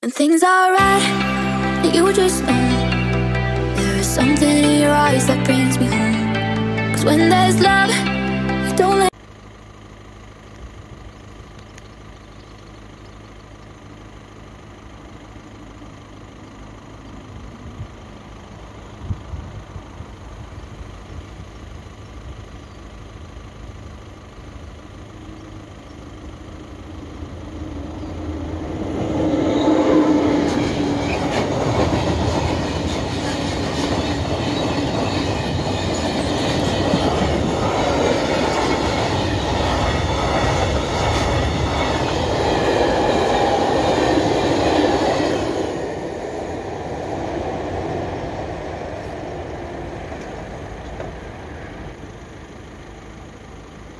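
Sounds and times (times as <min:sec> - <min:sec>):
freight train passing: 0:00.5 - 0:09.2, 0:13.9 - 0:53.8.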